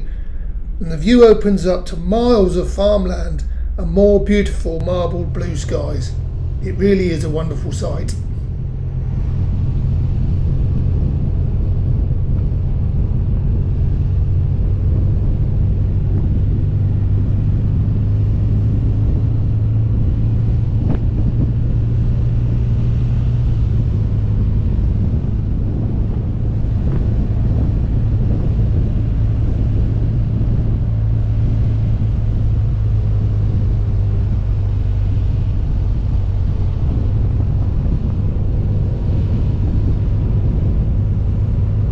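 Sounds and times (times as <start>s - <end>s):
wind noise on microphone: 0.0s - 41.9s.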